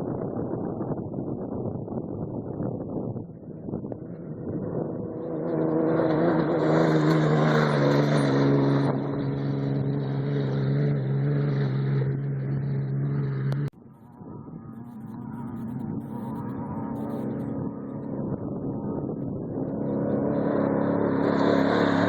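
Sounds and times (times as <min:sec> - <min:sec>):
race vehicle engine running hard: 0:00.0 - 0:22.0.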